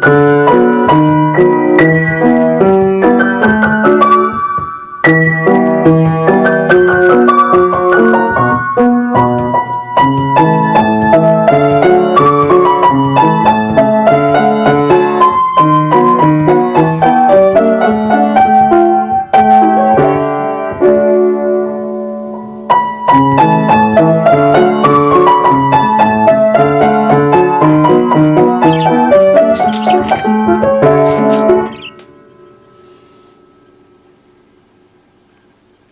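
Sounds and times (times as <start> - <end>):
piano melody over chords: 0.0 - 34.8.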